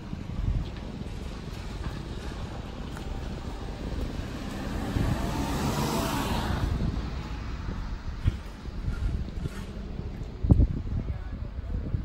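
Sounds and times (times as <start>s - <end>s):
distant engine hum: 0.0s - 11.8s
low wind rumble on microphone: 0.0s - 12.0s.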